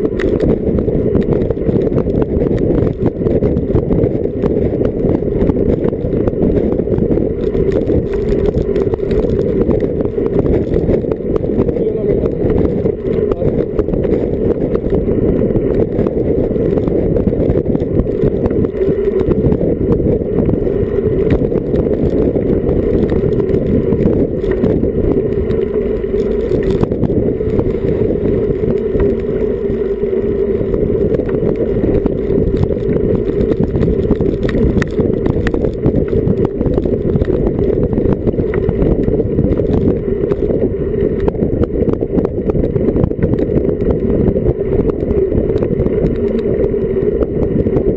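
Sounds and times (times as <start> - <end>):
wind and road noise rumble: 0.0 - 47.9.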